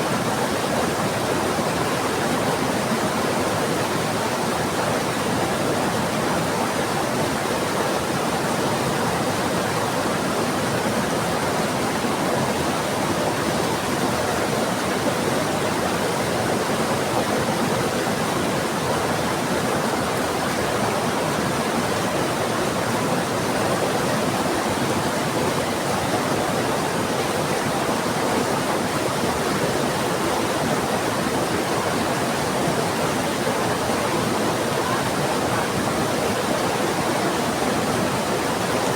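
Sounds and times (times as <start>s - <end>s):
fast-flowing river: 0.0s - 38.9s.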